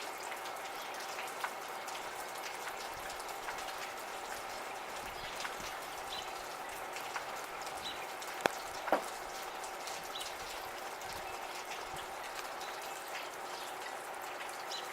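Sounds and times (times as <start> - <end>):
light rain falling: 0.0 - 14.9
sharp water drips: 0.0 - 14.9.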